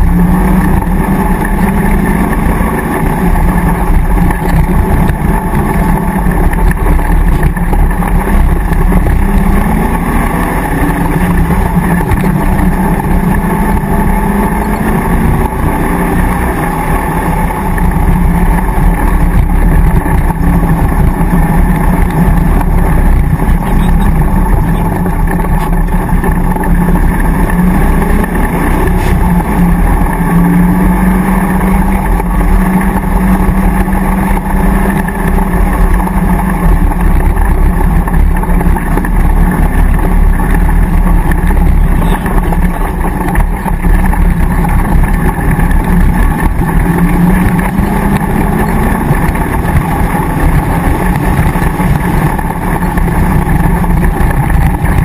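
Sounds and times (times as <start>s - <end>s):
engine revving under load: 0.0s - 55.0s.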